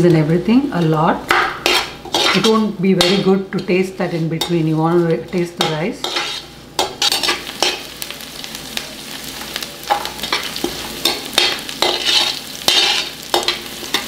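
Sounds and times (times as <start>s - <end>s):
onions sizzling in a pan: 0.0s - 14.0s
metal spoon scraping a pan: 0.8s - 7.9s, 9.8s - 14.0s.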